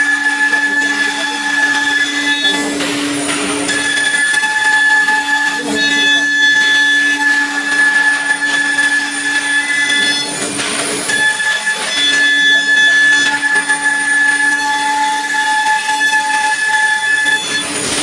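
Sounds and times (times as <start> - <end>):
cnc router machining board: 0.0 - 18.0.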